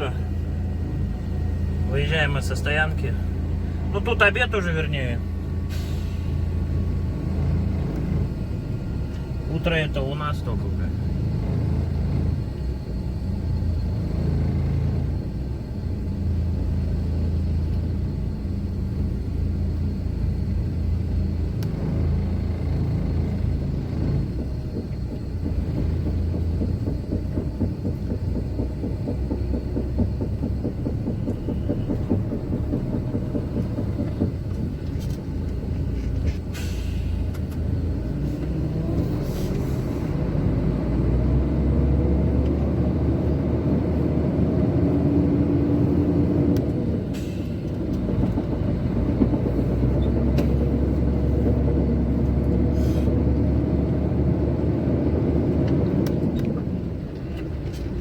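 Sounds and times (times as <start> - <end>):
truck engine rumbling: 0.0 - 58.0.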